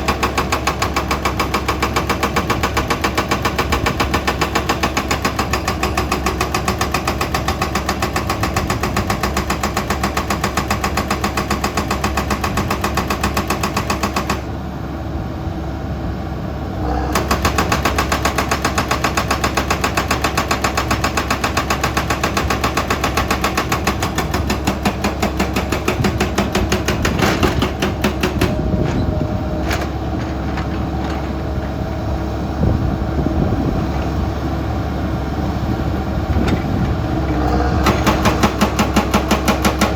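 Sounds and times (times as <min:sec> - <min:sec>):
excavator diesel engine pulsing: 0:00.0 - 0:39.9.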